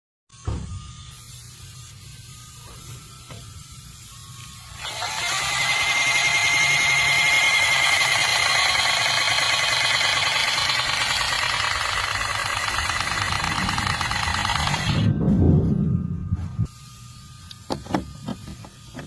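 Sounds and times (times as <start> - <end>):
power tool motor whining: 0.4 - 15.2, 16.7 - 19.0.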